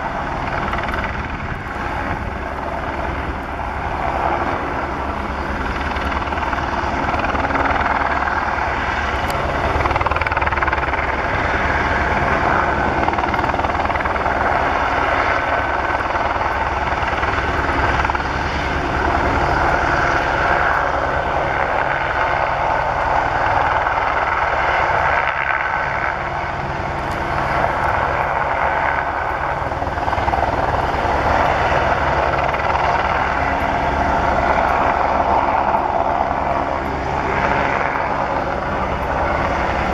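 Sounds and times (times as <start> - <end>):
helicopter rotor chop: 0.0 - 39.9
turbine noise: 0.0 - 39.9.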